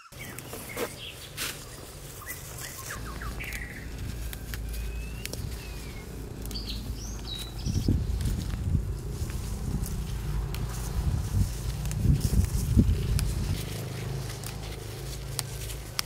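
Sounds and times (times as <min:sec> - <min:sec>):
small birds chirping: 0:00.0 - 0:16.0
steady low rumble: 0:00.1 - 0:16.0.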